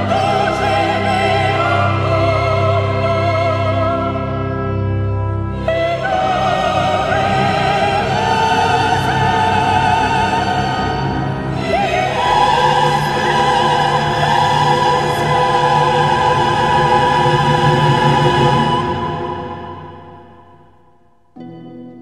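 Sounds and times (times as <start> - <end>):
person singing with vibrato: 0.0 - 4.4, 5.6 - 20.8
classical music: 0.0 - 22.0.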